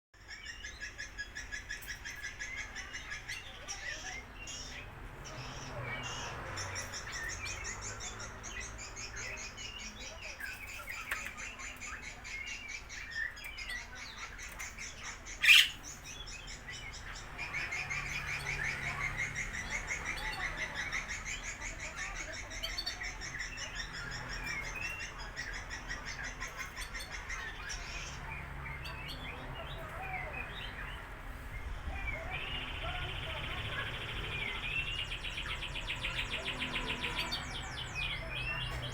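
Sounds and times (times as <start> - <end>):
lovebirds chattering: 0.2 - 38.9.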